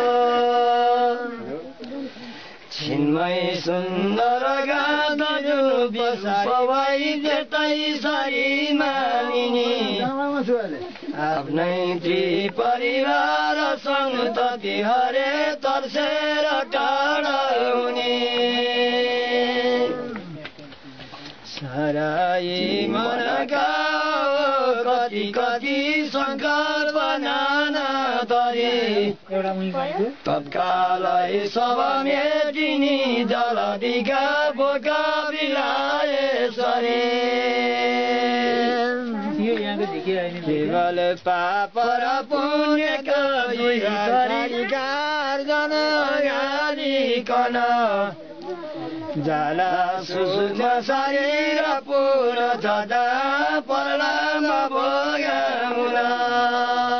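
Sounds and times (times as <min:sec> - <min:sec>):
men chanting together: 0:00.0 - 0:01.7, 0:02.7 - 0:20.4, 0:21.5 - 0:56.9.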